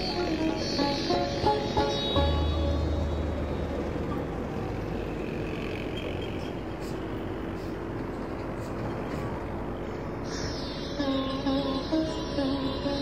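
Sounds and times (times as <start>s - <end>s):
heavy truck engine humming: 0.0s - 13.0s
passing cars on road: 0.0s - 13.0s.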